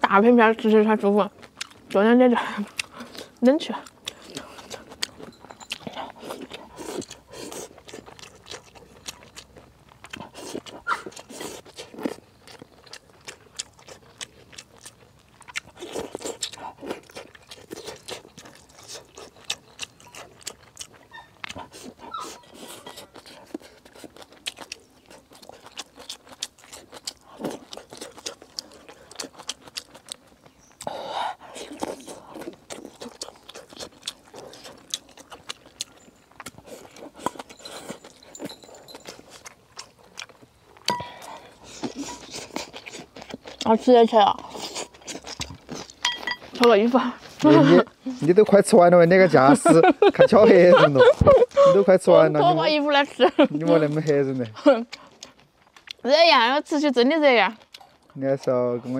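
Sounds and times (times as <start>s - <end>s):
chewing: 0.6s - 58.9s.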